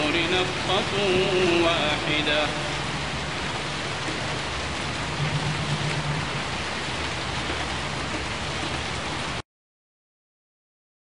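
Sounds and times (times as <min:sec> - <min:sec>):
steady rain hiss: 0:00.0 - 0:09.4.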